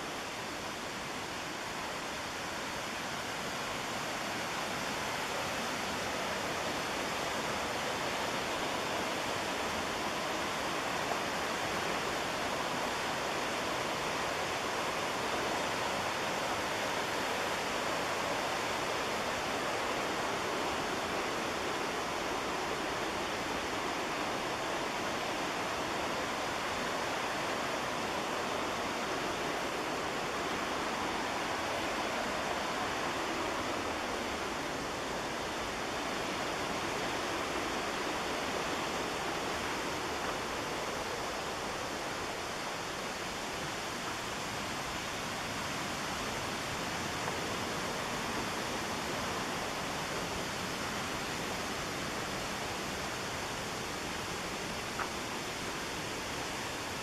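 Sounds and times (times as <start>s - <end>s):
white water rushing: 0.0s - 57.0s.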